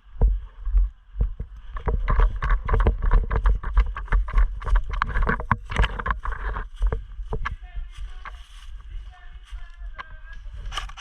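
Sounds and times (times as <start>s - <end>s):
clothing and gear rustling: 1.6s - 11.0s.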